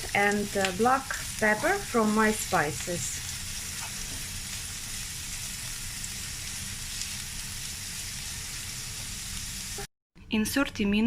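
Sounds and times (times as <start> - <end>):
vegetables sizzling in oil: 0.0 - 9.9.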